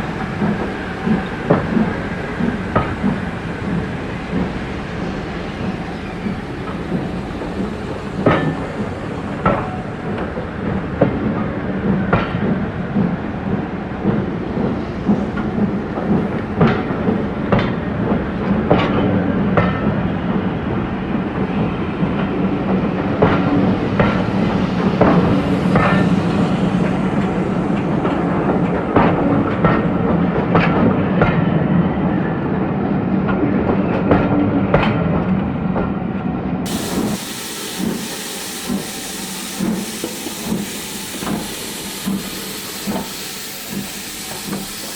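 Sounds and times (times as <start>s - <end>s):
train rumbling past: 0.0s - 44.9s.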